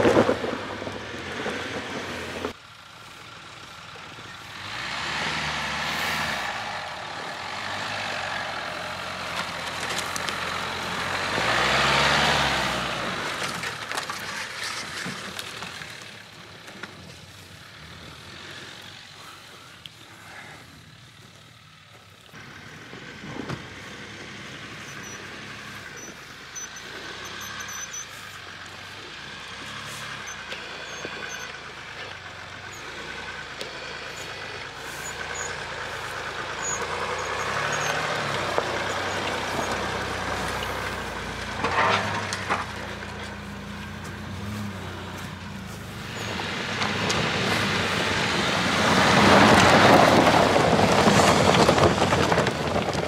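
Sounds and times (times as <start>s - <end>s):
snow chains and tyres scrabbling: 0.0s - 53.0s
suv engines working uphill: 0.0s - 53.0s.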